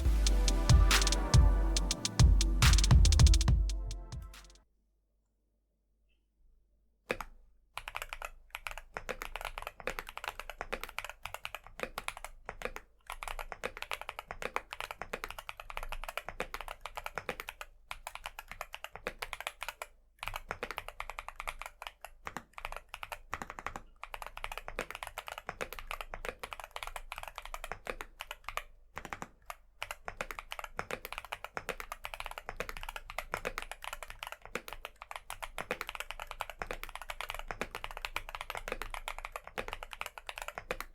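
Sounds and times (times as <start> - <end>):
typing on a mechanical keyboard: 7.8 - 40.9.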